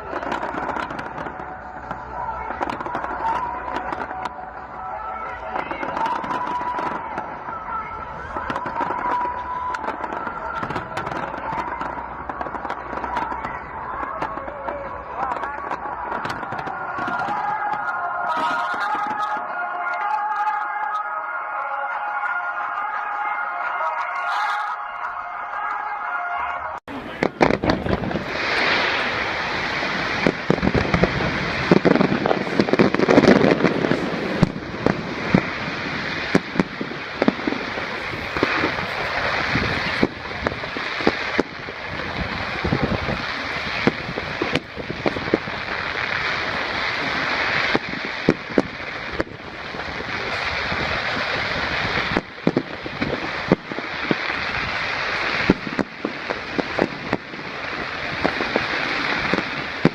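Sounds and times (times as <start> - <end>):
fireworks bangs and crackles: 0.0 - 25.9, 26.9 - 59.9.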